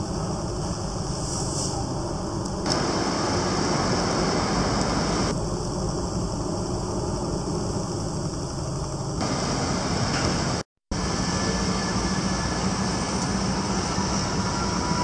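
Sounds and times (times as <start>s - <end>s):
constant hiss: 0.0s - 13.5s
machinery engine rumble: 0.1s - 5.8s, 8.1s - 15.0s.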